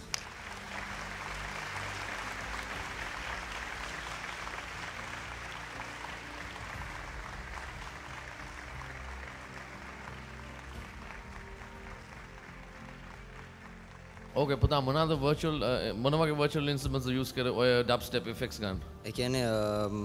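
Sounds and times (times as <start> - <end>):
studio audience applauding: 0.0 - 16.9
faint low music: 0.0 - 20.0.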